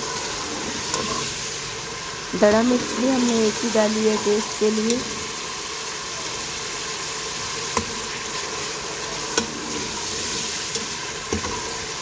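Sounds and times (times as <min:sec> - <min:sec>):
masala sizzling in oil: 0:00.0 - 0:12.0.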